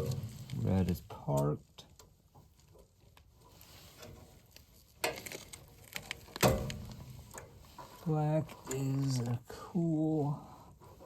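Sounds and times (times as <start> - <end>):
wires handling clicks and knocks: 0.0 - 9.4.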